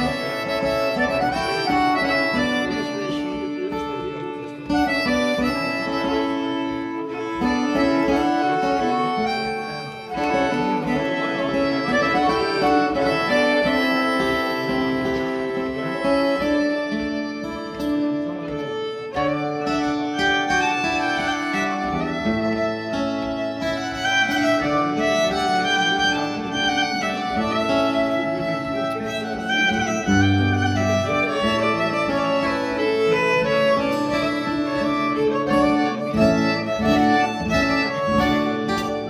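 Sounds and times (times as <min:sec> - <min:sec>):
accordion: 0:00.0 - 0:39.0
acoustic guitar: 0:00.0 - 0:39.0
fiddle: 0:00.0 - 0:39.0.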